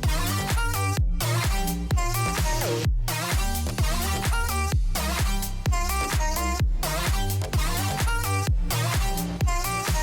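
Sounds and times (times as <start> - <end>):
electronic dance-pop music: 0.0 - 10.0.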